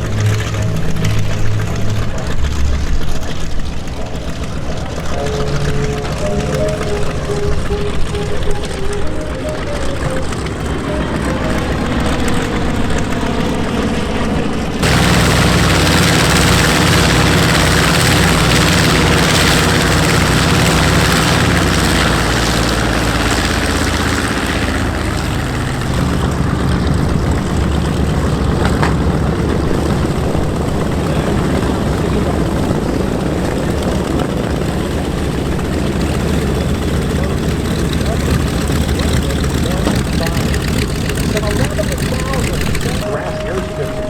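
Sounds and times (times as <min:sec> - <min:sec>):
propeller aircraft engines running: 0:00.0 - 0:44.0.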